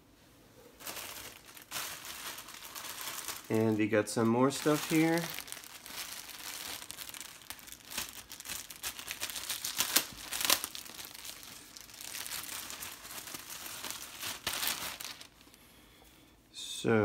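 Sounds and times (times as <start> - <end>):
tissue paper crinkling: 0.8 - 15.6.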